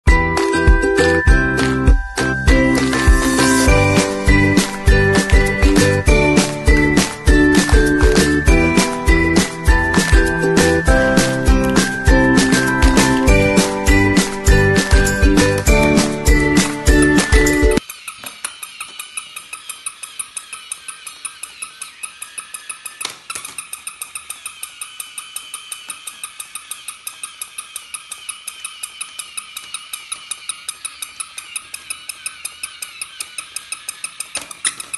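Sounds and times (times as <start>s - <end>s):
toy motor and gears whirring: 2.6s - 34.9s
rapid mechanical clicking: 4.2s - 34.9s.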